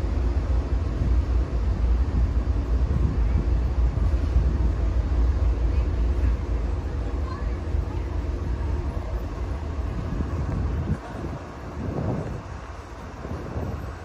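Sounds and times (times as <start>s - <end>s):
diesel locomotives rumbling: 0.0s - 14.0s.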